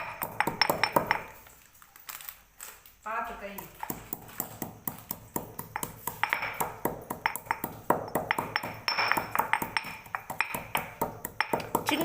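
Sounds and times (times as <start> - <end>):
stone pestle clinking in mortar: 0.0 - 1.4, 3.6 - 12.0.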